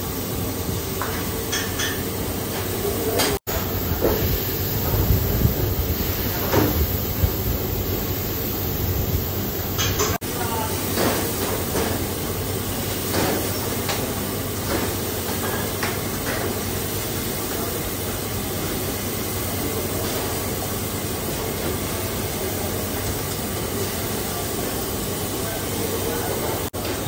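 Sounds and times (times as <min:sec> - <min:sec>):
batter sizzling on hot griddle: 0:00.0 - 0:27.0
kitchen exhaust hood rushing: 0:00.0 - 0:27.0.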